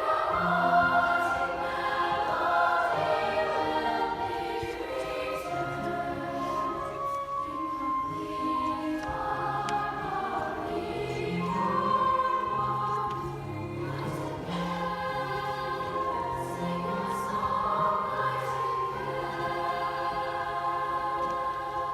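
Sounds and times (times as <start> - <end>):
youth choir singing chords: 0.0 - 21.9.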